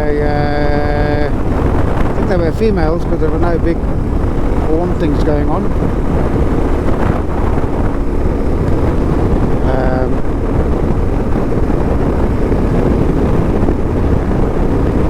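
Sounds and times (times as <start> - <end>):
vehicle road noise: 0.0 - 15.0
wind buffeting microphone: 0.0 - 15.0.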